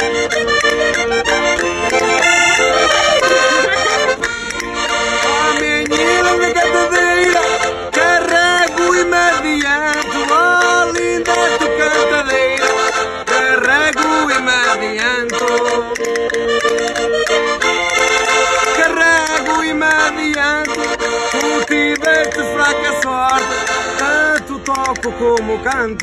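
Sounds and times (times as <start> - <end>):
accordion folk tune: 0.0 - 26.0
person singing: 1.4 - 26.0.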